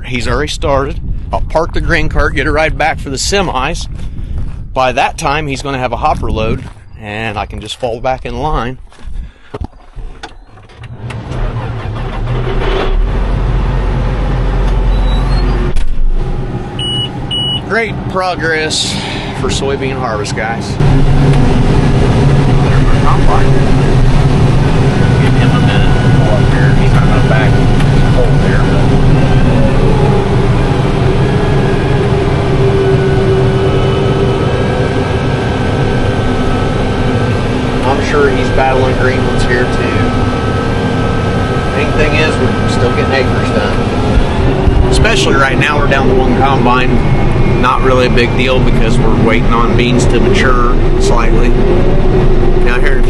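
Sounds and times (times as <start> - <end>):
heavy vehicle engine humming: 5.9 - 53.0.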